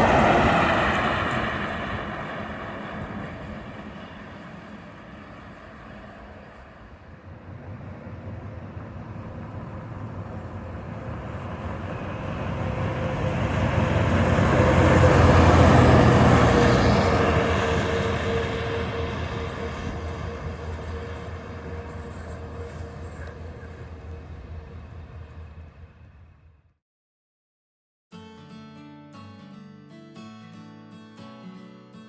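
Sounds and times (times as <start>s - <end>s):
passing vehicle: 0.0s - 26.6s
truck driving past: 0.0s - 26.6s.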